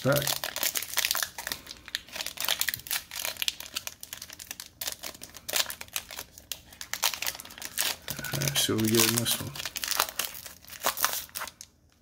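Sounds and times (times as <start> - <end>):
foil wrapper crinkling and tearing: 0.0 - 11.8.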